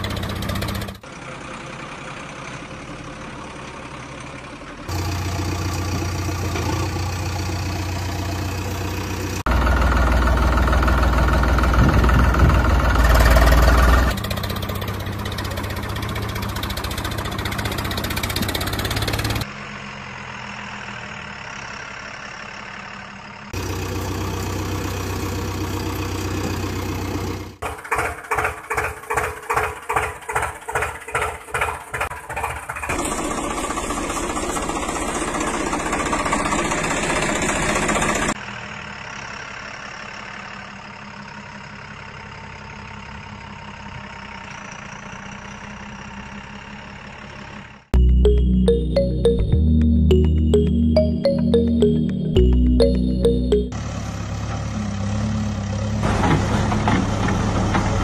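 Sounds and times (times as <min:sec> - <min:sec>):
engine idling: 0:00.0 - 0:48.3.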